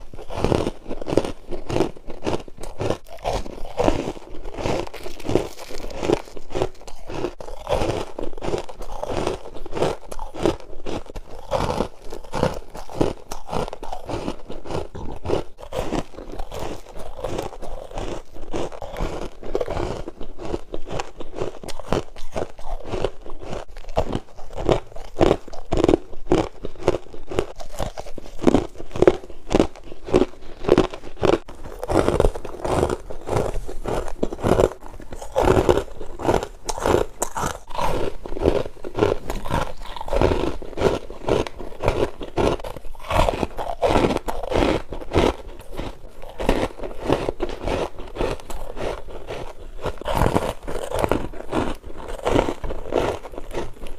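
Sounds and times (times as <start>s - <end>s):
frost being chewed crunching: 0.0s - 53.9s.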